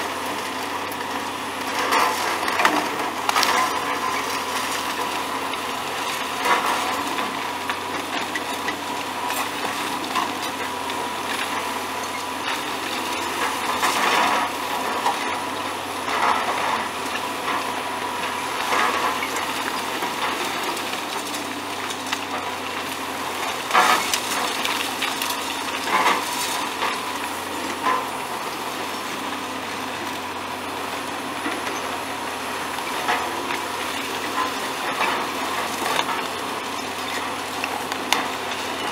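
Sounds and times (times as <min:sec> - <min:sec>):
excavator running with whine: 0:00.0 - 0:38.9.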